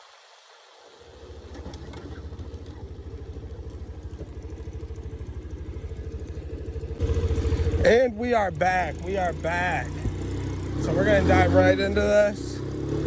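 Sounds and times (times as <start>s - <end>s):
motorcycle engine running: 1.2s - 13.0s.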